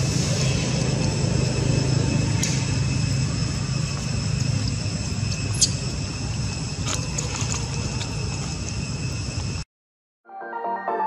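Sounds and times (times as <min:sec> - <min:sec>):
high-pitched drone: 0:00.0 - 0:09.6.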